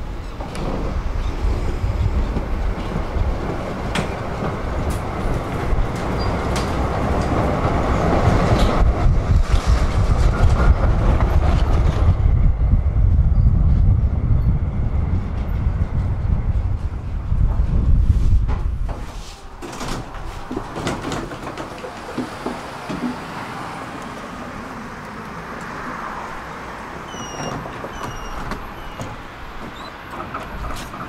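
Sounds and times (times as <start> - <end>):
rail clicks: 0.0 - 13.9, 14.6 - 31.0
tram wheels rumbling on rail: 0.0 - 31.0.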